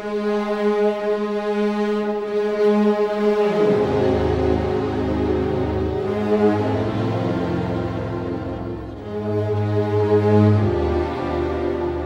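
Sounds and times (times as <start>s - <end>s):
orchestral music with sustained notes: 0.0s - 12.0s.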